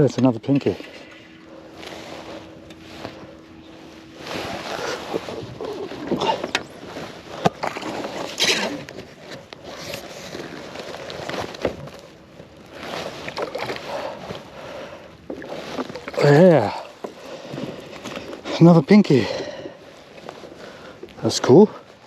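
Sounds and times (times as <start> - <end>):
water splashing around kayak: 0.6 - 22.0.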